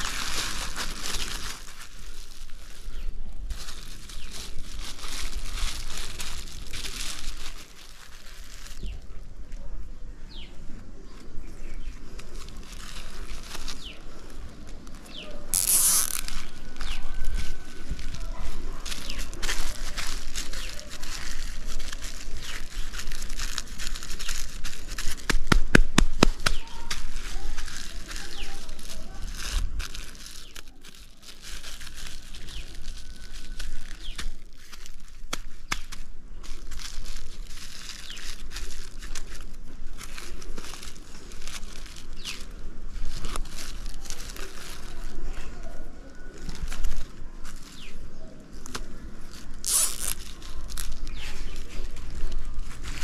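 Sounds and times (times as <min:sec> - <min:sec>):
plastic bag crinkling: 0:00.0 - 0:09.2, 0:11.6 - 0:53.0.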